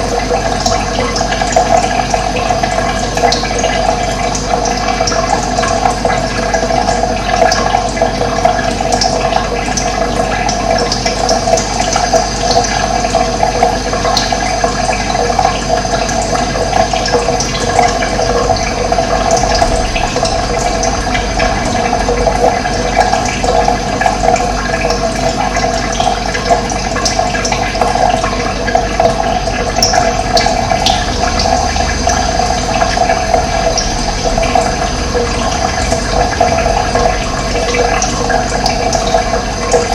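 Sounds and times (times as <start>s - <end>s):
running water gushing: 0.0s - 39.9s.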